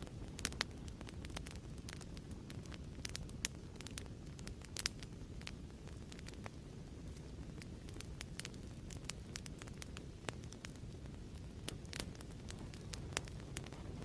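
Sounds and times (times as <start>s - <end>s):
burning wood popping: 0.0s - 14.0s
fire crackling in fireplace: 0.0s - 14.0s
low rumble of flames: 0.0s - 14.0s.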